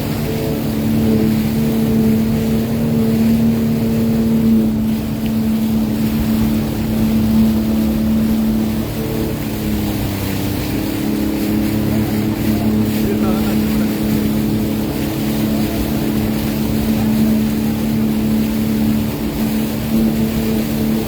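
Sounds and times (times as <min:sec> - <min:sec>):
personal watercraft engine running: 0:00.0 - 0:21.0
wind and water noise: 0:00.0 - 0:21.0.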